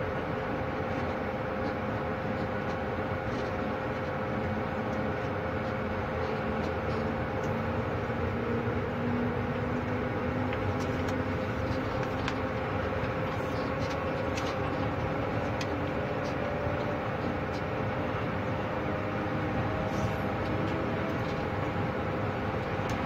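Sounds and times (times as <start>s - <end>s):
locomotive running noise: 0.0s - 23.0s.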